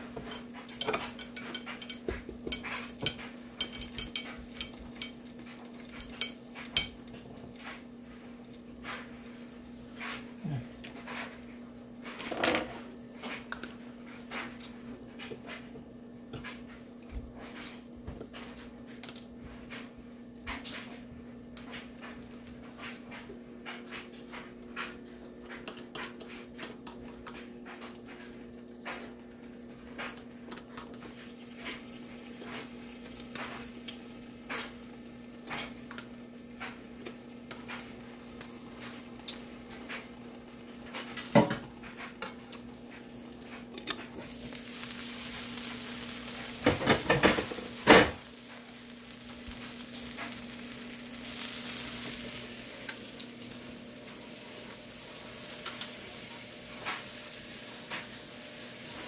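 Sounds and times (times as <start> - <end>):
sausages sizzling in a pan: 0.0 - 59.0.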